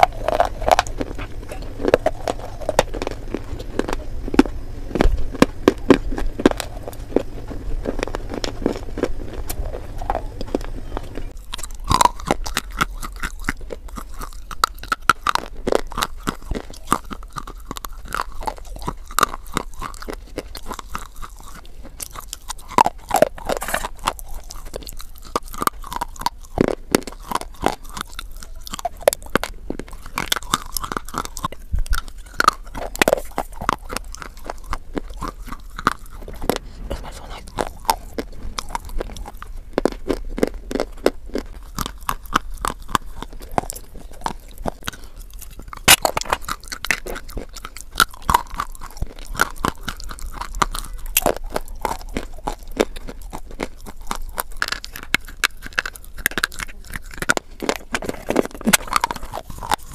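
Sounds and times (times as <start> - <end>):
crunching and chewing: 0.0 - 59.9.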